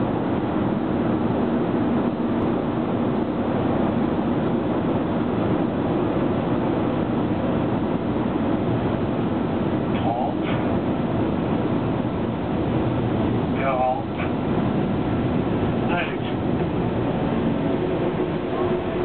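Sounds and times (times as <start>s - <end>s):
aircraft cabin engine noise: 0.0s - 19.0s
constant low hum: 0.0s - 19.0s.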